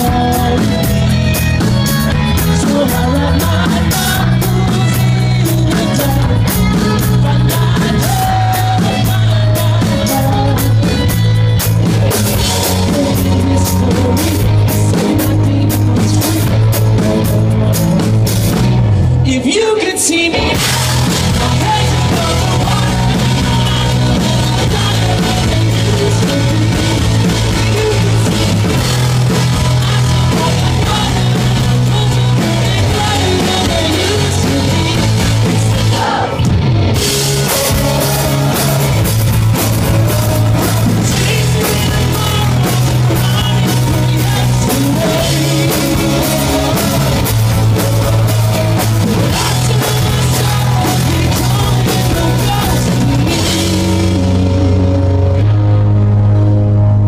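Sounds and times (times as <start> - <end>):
heavy steady bass line: 0.0 - 19.7, 20.3 - 57.0
drum kit: 0.0 - 57.0
guitars: 0.0 - 57.0.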